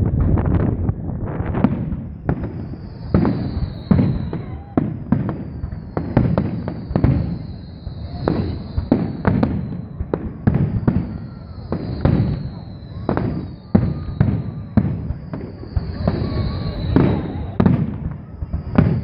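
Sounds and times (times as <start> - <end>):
firework bangs and crackles: 0.0 - 19.0
firework whistle falling in pitch: 1.6 - 19.0.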